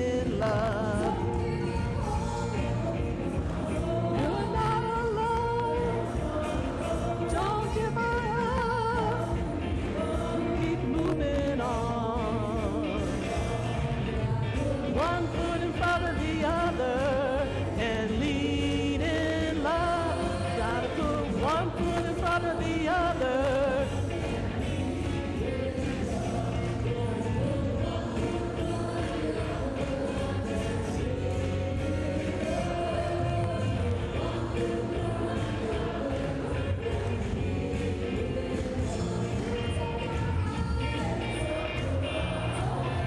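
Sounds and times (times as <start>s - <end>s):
person singing with vibrato: 0.0s - 43.0s
praise band playing gospel song: 0.0s - 43.0s.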